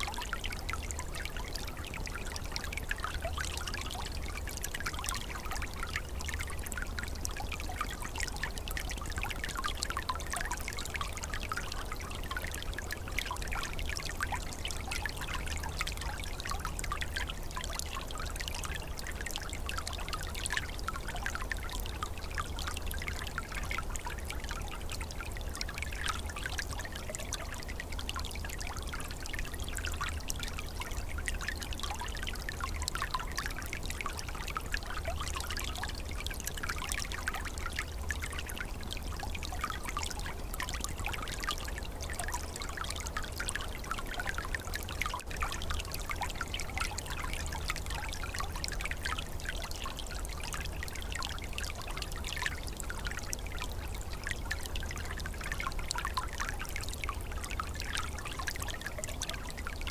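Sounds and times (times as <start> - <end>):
stream trickling: 0.0 - 59.9.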